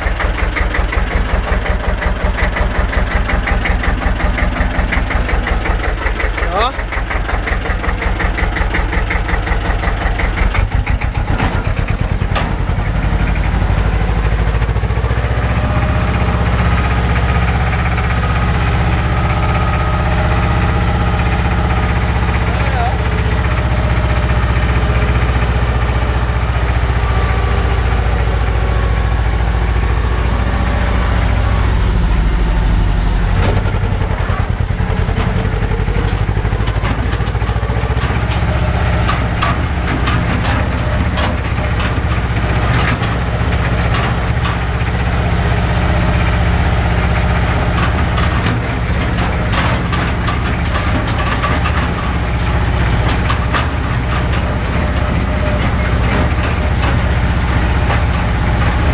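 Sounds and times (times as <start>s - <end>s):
rattles and knocks: 0.0s - 27.4s, 33.3s - 45.7s, 46.3s - 58.9s
tractor engine running: 0.0s - 58.9s.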